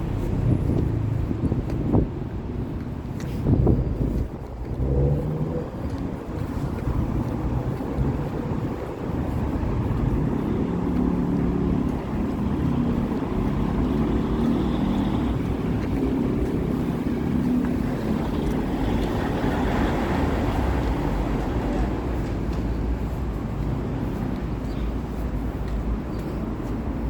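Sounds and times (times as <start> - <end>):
vehicle engines running: 0.0 - 27.0
wind buffeting microphone: 0.0 - 27.0.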